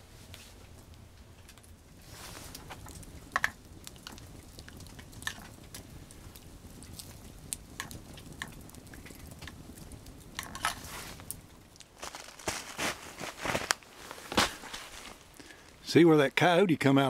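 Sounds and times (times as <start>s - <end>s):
campfire crackling: 0.0s - 17.0s
sharp pops of fire: 0.3s - 15.8s.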